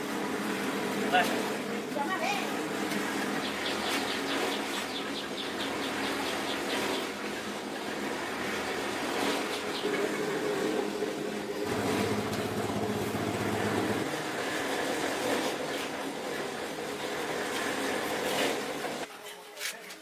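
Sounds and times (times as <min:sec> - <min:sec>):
engine running: 0:00.0 - 0:19.1.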